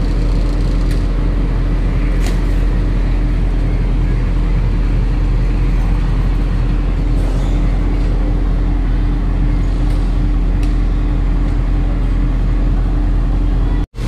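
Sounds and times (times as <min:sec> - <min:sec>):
machine droning: 0:00.0 - 0:14.0.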